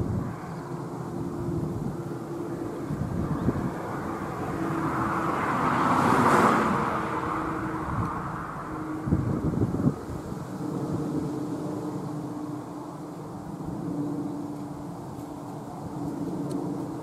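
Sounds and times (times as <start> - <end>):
jet engines rumbling overhead: 0.0 - 17.0
road vehicle passing: 0.0 - 17.0.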